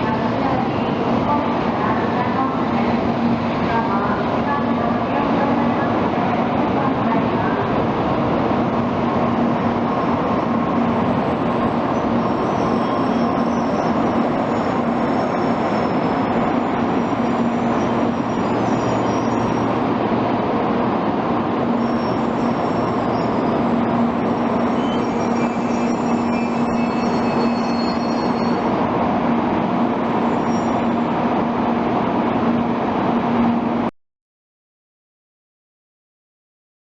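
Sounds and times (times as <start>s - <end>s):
train rumble with low hum: 0.0s - 33.9s.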